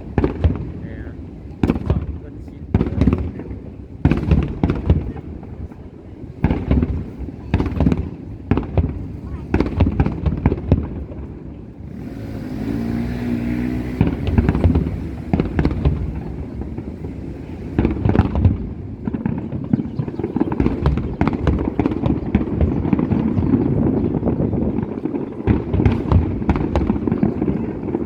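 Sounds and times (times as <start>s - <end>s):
fireworks bangs and crackling: 0.0s - 28.0s
fireworks hissing: 0.0s - 28.0s.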